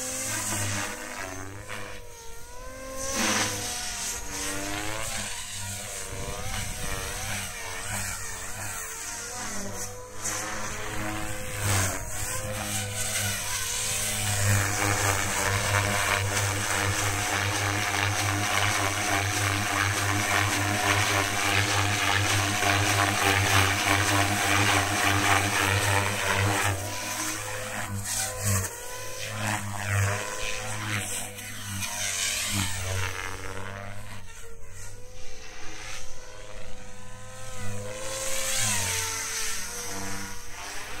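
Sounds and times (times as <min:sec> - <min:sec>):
rc helicopter motor and rotor: 0:00.0 - 0:41.0.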